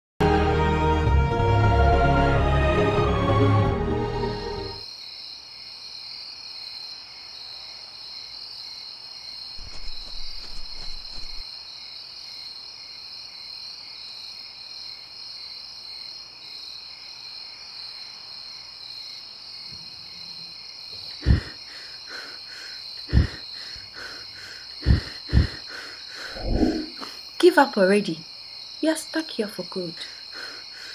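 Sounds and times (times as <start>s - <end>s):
crickets chirring: 4.8s - 30.9s.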